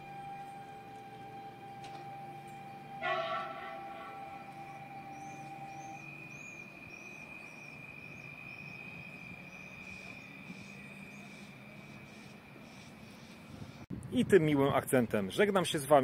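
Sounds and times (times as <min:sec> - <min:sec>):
faint low hum: 0:00.0 - 0:13.8
steady high-pitched whine: 0:00.0 - 0:13.9.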